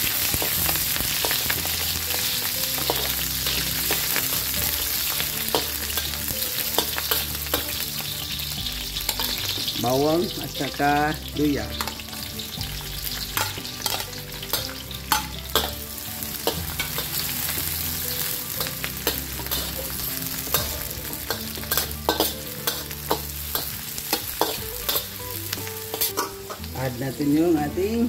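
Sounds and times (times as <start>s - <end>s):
vegetables sizzling in oil: 0.0s - 28.0s
metal spatula scraping wok: 0.1s - 10.0s, 10.7s - 26.8s.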